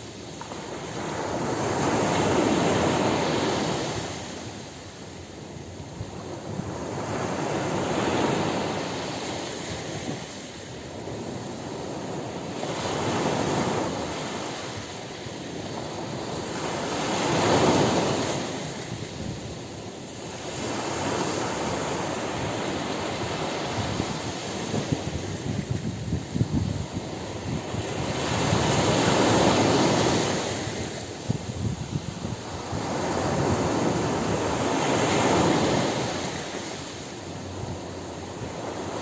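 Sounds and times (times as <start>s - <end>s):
crackling wash of surf: 0.0s - 39.0s
ocean waves breaking on beach: 0.0s - 39.0s.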